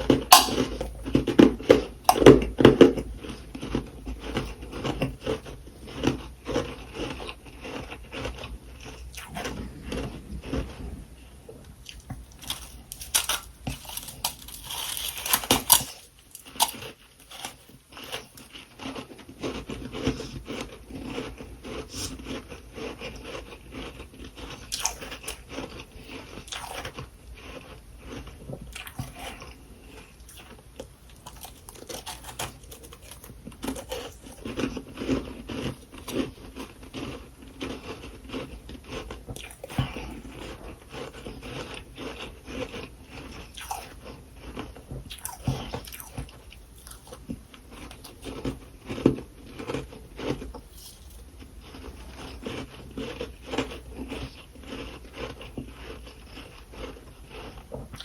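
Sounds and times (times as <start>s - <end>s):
person chewing frost crunching: 0.0s - 58.0s.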